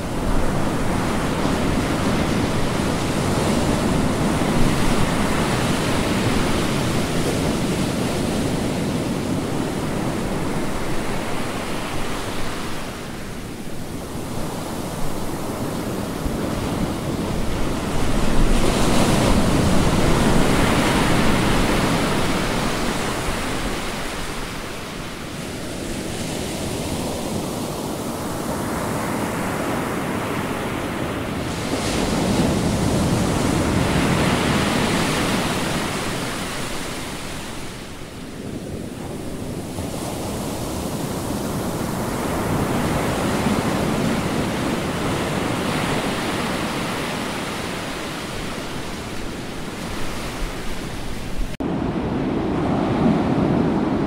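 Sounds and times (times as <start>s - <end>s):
ocean waves crashing: 0.0s - 54.0s.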